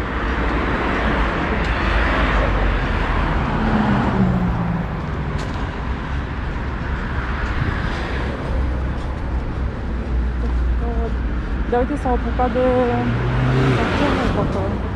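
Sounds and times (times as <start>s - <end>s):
cars passing on a street: 0.0s - 14.9s.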